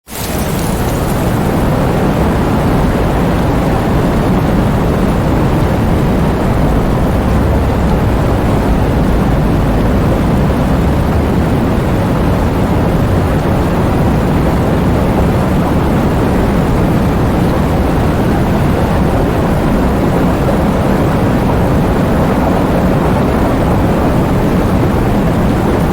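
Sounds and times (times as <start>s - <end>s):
heavy thunderstorm rumbling: 0.1s - 25.9s.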